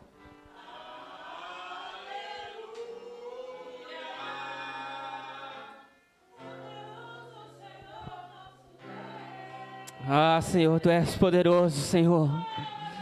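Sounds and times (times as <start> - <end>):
voices singing worship music: 0.0 - 13.0.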